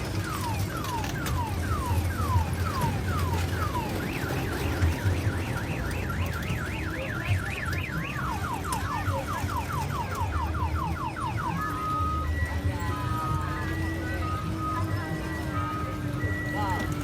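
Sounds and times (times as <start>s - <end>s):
electronic siren cycling: 0.0s - 17.0s.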